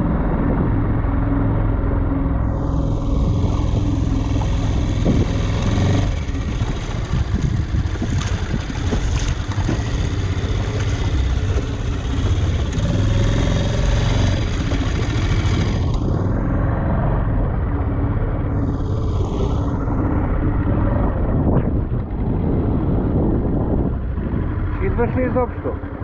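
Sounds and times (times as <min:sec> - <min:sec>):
outboard motor running: 0:00.0 - 0:26.0
water rushing along hull: 0:00.0 - 0:26.0.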